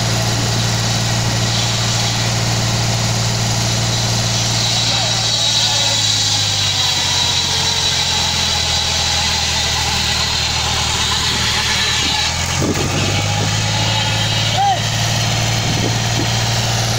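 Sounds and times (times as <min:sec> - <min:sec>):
circular saw whining: 0:00.0 - 0:16.9
tractor engine running: 0:00.0 - 0:16.9.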